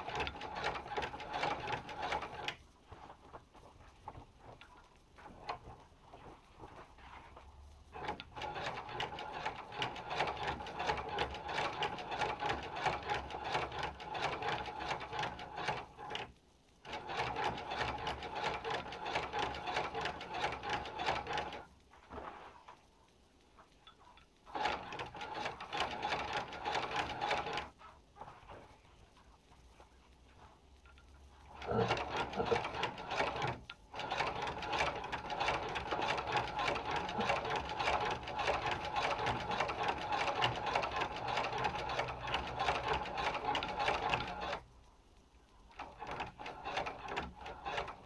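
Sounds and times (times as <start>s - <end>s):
sewing machine clatter: 0.0s - 22.6s, 23.6s - 44.7s, 45.7s - 48.0s.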